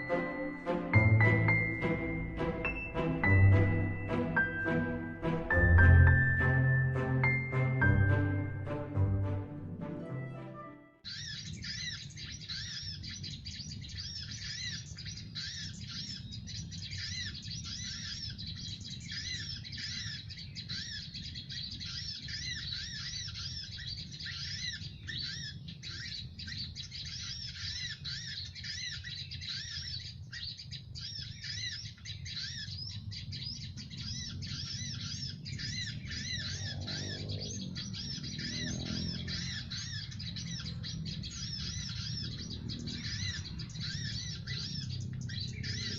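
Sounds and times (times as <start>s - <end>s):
birds chirping rapidly: 0.0s - 9.6s, 11.0s - 45.9s.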